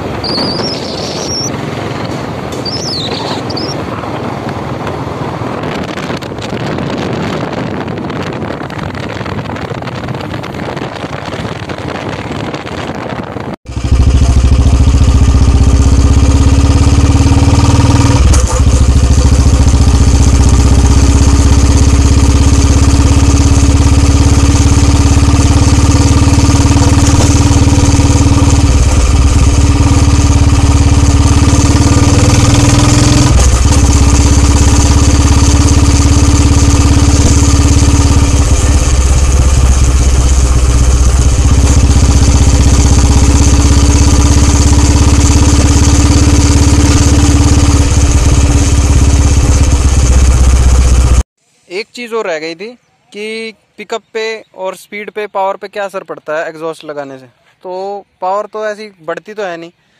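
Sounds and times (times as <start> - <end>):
motorcycle engine running: 0.0 - 51.3.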